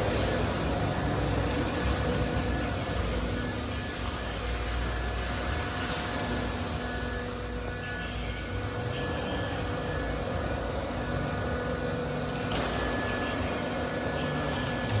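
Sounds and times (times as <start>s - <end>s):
machine hiss: 0.0s - 15.0s.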